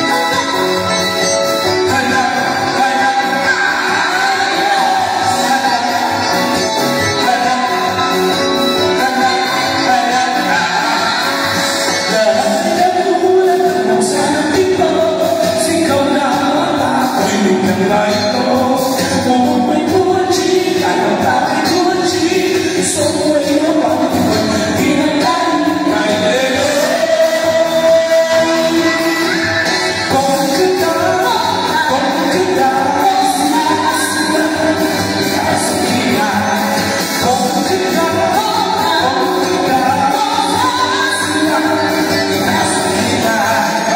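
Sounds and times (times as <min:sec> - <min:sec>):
loud backing music: 0:00.0 - 0:43.9
man and woman singing: 0:00.0 - 0:43.9.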